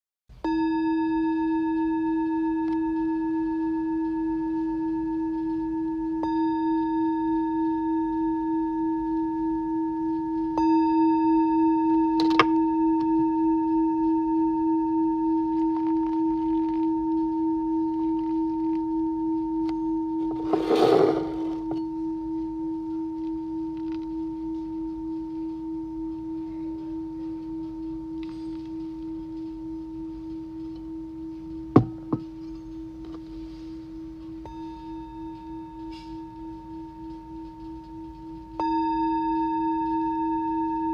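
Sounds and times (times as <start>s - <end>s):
singing bowl ringing: 0.4s - 40.9s.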